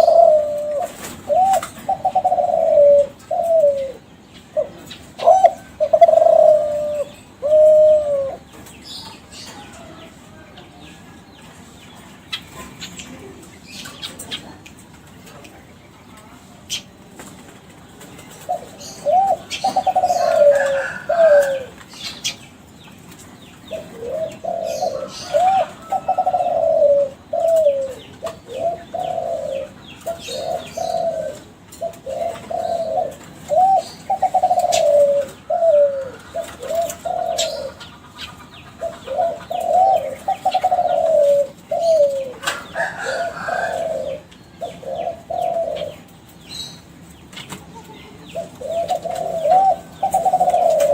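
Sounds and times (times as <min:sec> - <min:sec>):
dove cooing: 0:00.0 - 0:11.1, 0:16.7 - 0:22.4, 0:23.2 - 0:50.9
birds chirping: 0:00.0 - 0:50.9.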